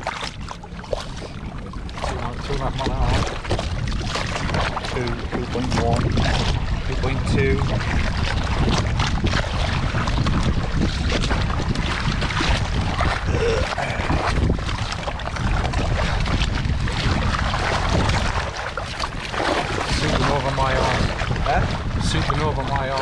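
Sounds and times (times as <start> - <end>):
water splashing along hulls: 0.0 - 23.0
wind buffeting microphone: 0.0 - 23.0.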